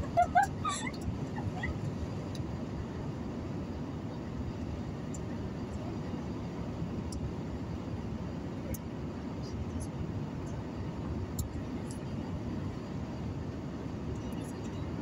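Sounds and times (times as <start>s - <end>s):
car interior road rumble: 0.0s - 15.0s.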